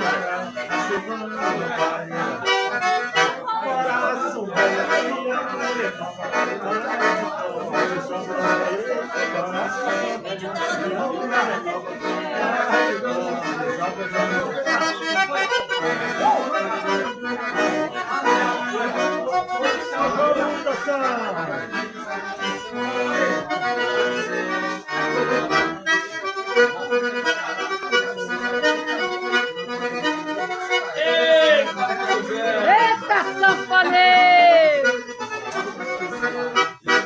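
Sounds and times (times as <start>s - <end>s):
accordion playing folk music: 0.0s - 37.0s
faint voices: 0.0s - 37.0s.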